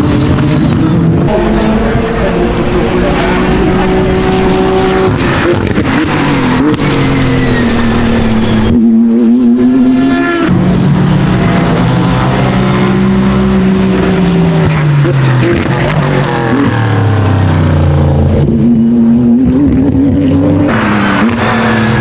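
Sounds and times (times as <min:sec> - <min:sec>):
race car engine passing: 0:00.0 - 0:22.0.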